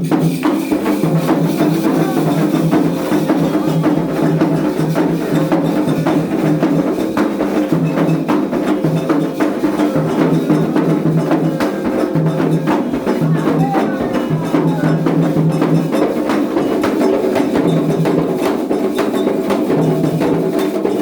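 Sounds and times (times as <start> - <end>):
percussion music: 0.0 - 21.0.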